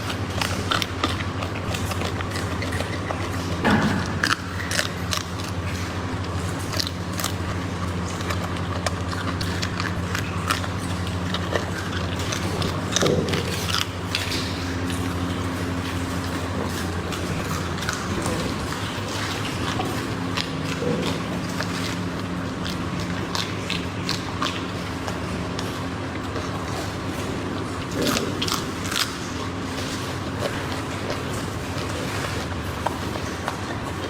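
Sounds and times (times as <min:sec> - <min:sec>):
monkey chewing food: 0:00.0 - 0:34.0
steady low hum: 0:00.0 - 0:34.0.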